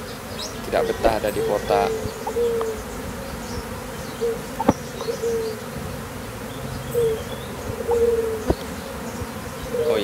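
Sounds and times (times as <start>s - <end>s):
bee swarm buzzing: 0.0s - 10.0s
single bees droning past: 0.0s - 10.0s.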